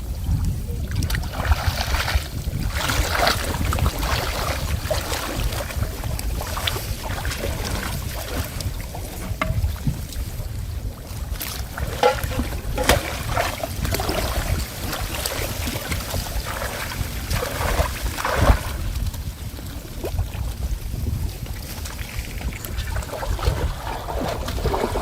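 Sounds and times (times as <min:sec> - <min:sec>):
wind rumbling on microphone: 0:00.0 - 0:25.0
water splashes: 0:00.1 - 0:25.0.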